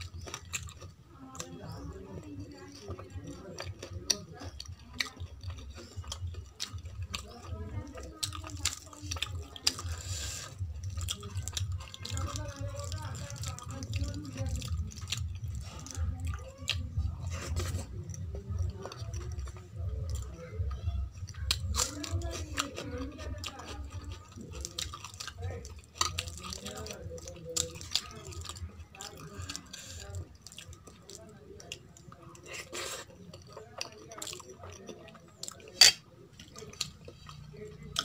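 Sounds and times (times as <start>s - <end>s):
wet chewing with lip smacks: 0.0s - 38.0s.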